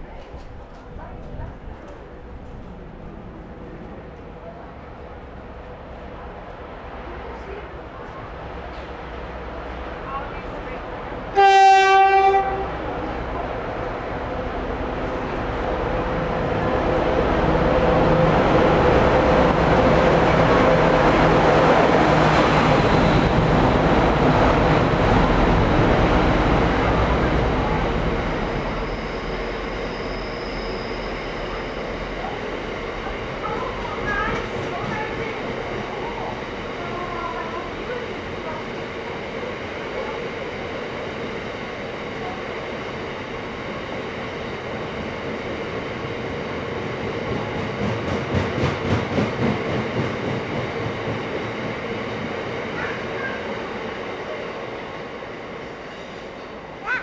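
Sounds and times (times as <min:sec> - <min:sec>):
diesel locomotive engine passing: 0:00.0 - 0:57.0
freight wagons rumbling on rails: 0:00.0 - 0:57.0.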